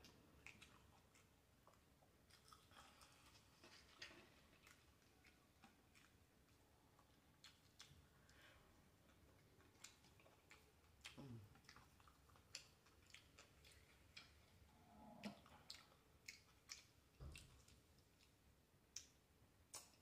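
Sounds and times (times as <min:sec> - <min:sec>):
faint chewing: 0:00.0 - 0:20.0.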